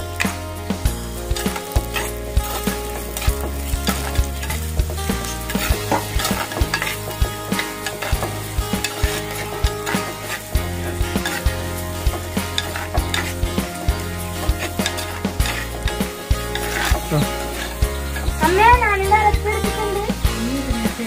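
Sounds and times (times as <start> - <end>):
onions sizzling: 0.0 - 21.0
spoon scraping clay pot: 1.4 - 18.4.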